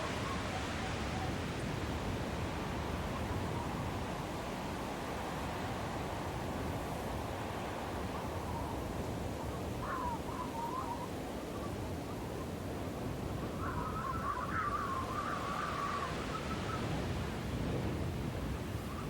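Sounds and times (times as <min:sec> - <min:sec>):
snowstorm wind blowing: 0:00.0 - 0:19.0.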